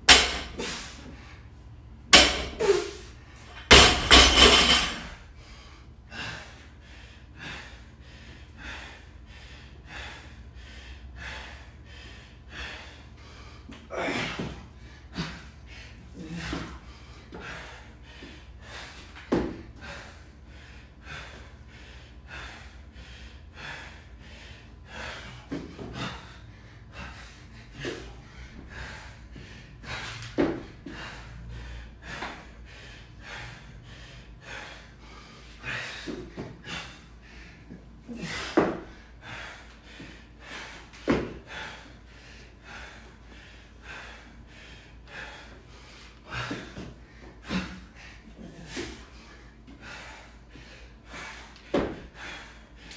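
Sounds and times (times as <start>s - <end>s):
man breathing heavily and gasping: 0.0s - 52.9s.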